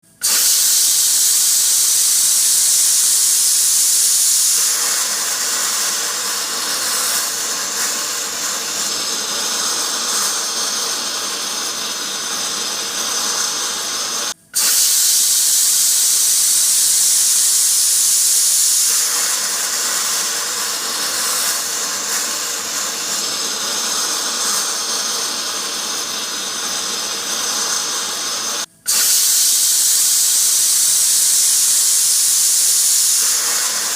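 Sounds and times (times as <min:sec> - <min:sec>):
pressure cooker hissing: 0:00.0 - 0:33.9.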